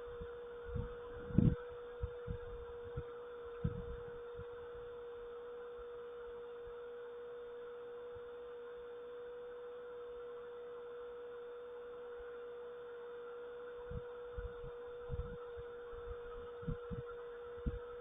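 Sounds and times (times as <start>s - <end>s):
steady pure-pitch hum: 0.0s - 18.0s.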